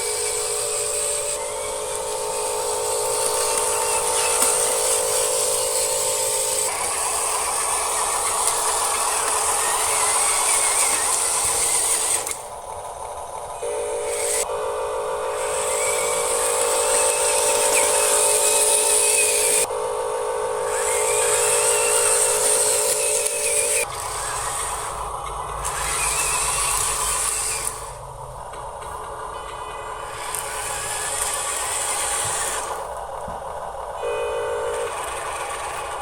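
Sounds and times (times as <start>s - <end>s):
lower hum: 0.0s - 35.1s
steady buzzing whine: 0.0s - 36.0s
toy electric motors whirring: 0.0s - 36.0s.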